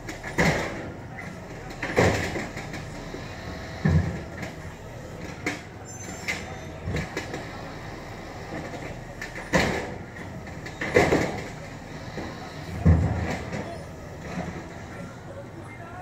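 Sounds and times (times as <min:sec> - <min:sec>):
garbage truck engine running: 0:00.0 - 0:16.0.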